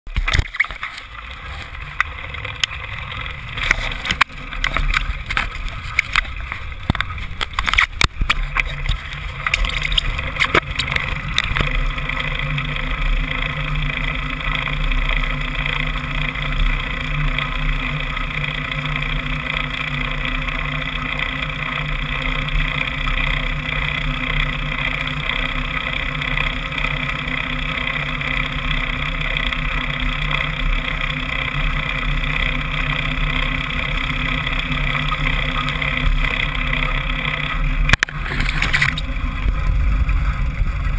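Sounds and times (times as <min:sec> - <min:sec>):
bicycle splashing through water: 0:00.1 - 0:40.9.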